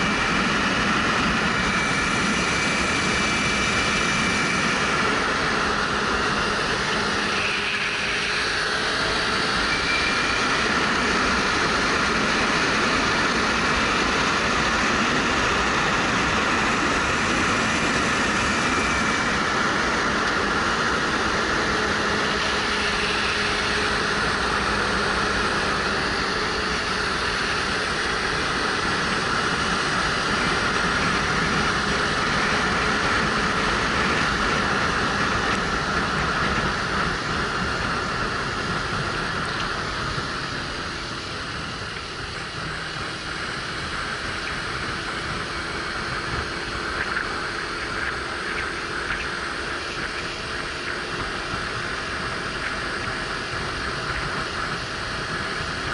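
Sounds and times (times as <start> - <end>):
motorcycle engine at speed: 0.0 - 55.9.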